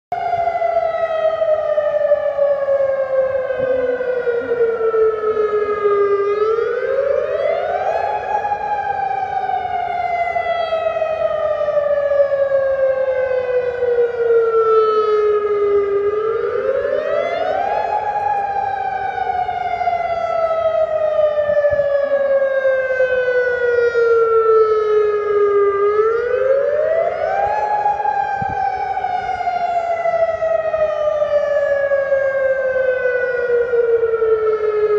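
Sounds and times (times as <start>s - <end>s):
emergency siren wailing: 0.1s - 34.9s.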